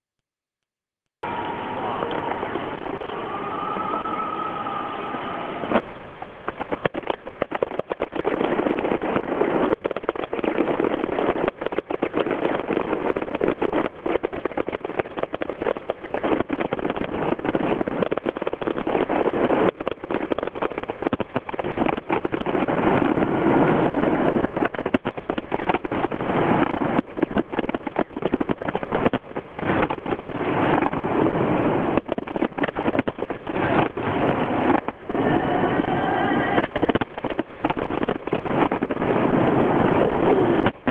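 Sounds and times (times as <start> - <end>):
fireworks crackling and popping: 1.2 - 40.9.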